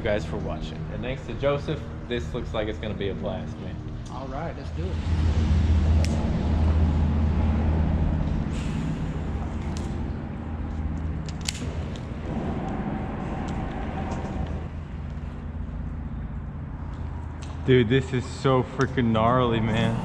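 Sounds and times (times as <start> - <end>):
traffic rumble on bridge: 0.0 - 20.0.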